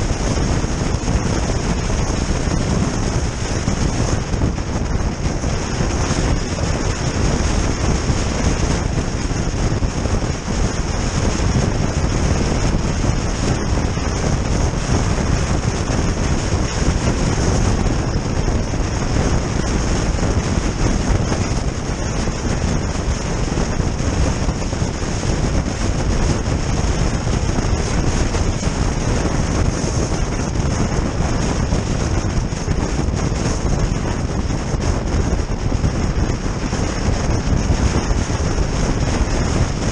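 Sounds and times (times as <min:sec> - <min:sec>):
road and tyre noise: 0:00.0 - 0:39.9
wind buffeting microphone: 0:00.0 - 0:39.9.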